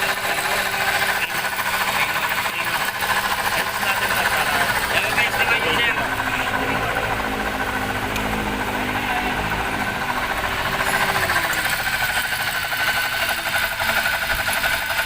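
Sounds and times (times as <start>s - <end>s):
alternator noise: 0.0s - 15.0s
car engine running: 0.0s - 15.0s.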